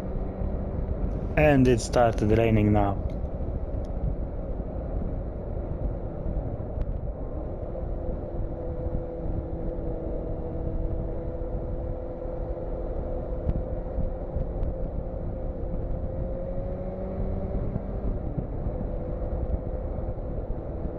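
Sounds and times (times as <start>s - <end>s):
wind rumble on microphone: 4.0s - 20.9s.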